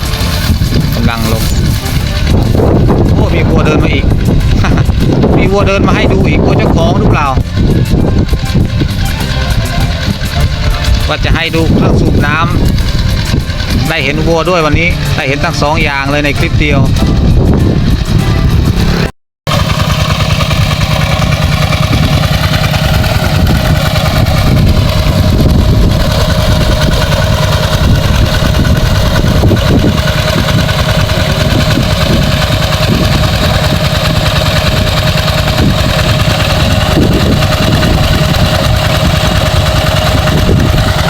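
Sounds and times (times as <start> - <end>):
engine-driven water pump running: 0.0 - 41.0.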